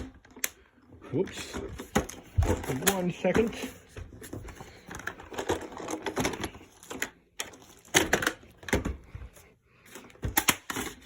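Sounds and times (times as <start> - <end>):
plastic vacuum parts clicking: 0.0 - 9.1, 9.8 - 11.0.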